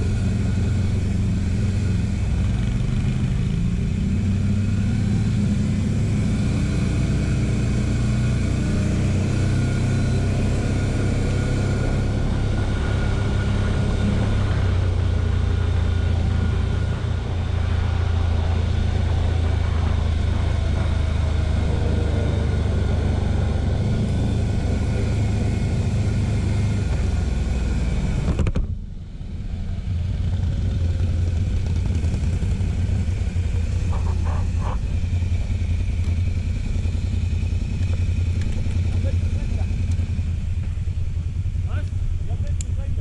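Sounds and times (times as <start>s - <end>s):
quad engine running: 0.0s - 43.0s
tyre and road noise rumble: 0.0s - 43.0s.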